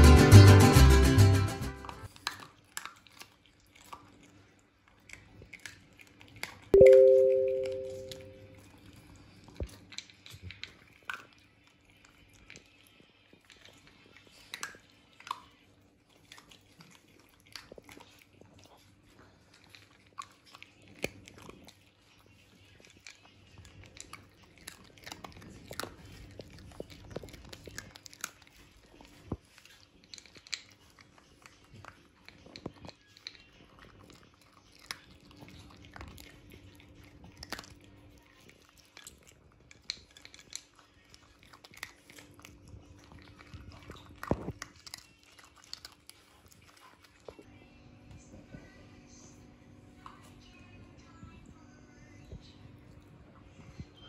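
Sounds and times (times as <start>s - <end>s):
dog crunching dry kibble: 2.0s - 6.7s, 8.7s - 47.5s.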